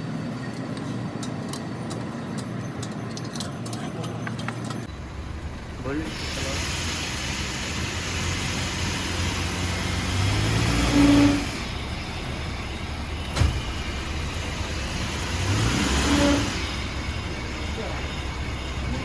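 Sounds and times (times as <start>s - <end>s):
car road and tyre noise: 0.0s - 19.0s.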